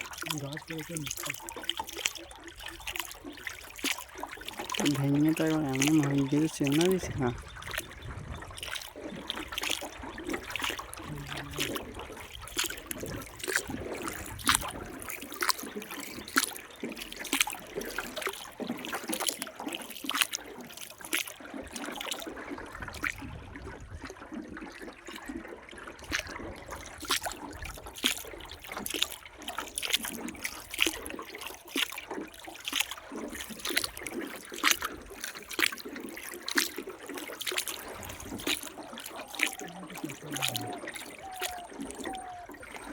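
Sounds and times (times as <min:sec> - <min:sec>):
water splashing around boat: 0:00.0 - 0:42.9.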